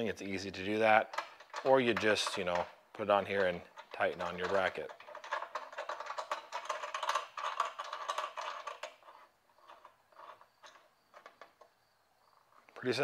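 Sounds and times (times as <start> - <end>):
metal hardware rattling and clinking: 0.0 - 11.7.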